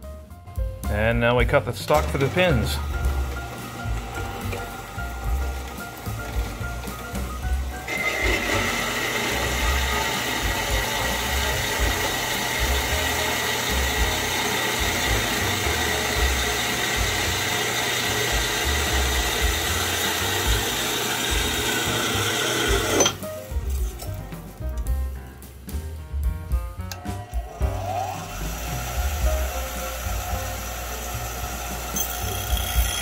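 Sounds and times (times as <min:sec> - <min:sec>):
bandsaw cutting metal bar: 0:01.9 - 0:23.3, 0:27.4 - 0:33.0.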